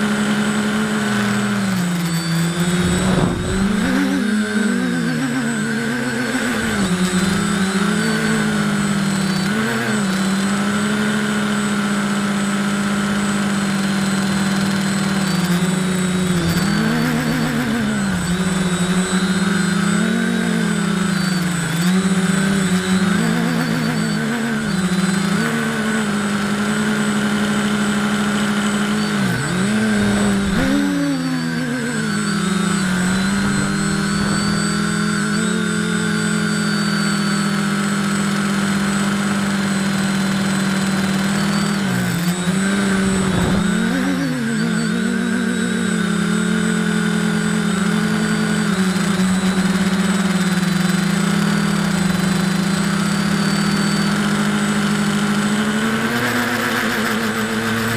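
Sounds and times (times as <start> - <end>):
drone motors buzzing: 0.0 - 57.9.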